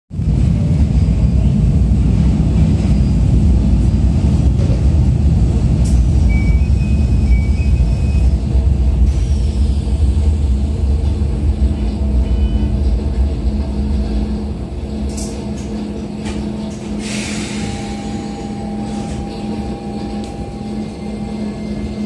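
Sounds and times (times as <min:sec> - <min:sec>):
train car low hum: 0:00.1 - 0:22.0.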